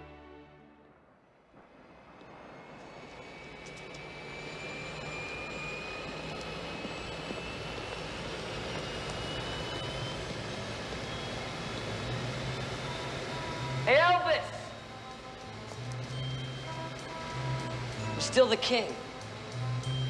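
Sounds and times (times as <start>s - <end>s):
airplane engines running up: 0.0s - 20.0s.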